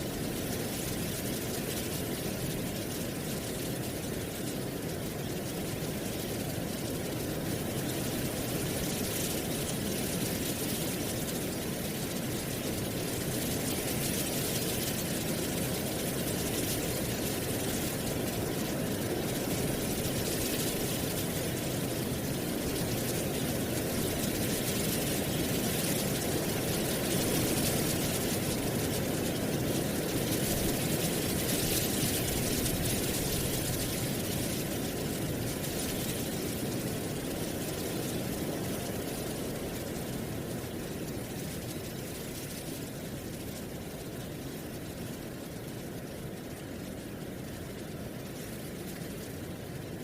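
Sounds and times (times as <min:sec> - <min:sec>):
wind rustling dry leaves: 0:00.0 - 0:50.0.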